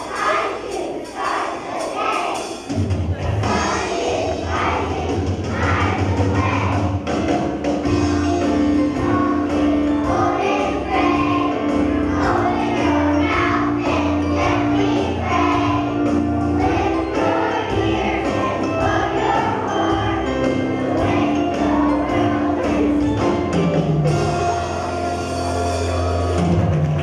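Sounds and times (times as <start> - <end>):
children singing: 0.0 - 25.0
musical accompaniment: 0.0 - 27.0.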